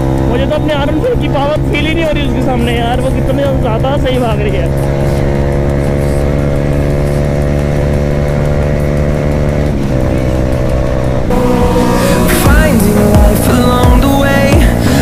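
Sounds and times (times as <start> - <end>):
background music: 0.0 - 15.0
motorcycle engine at high revs: 0.0 - 15.0.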